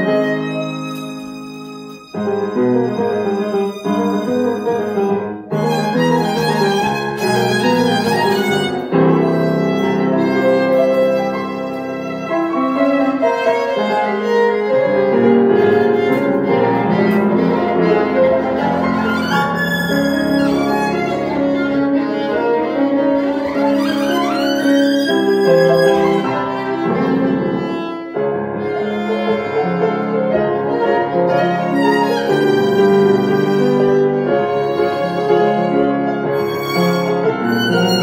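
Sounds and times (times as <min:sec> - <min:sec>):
piano chords: 0:00.0 - 0:38.0
violin melody: 0:00.0 - 0:38.0.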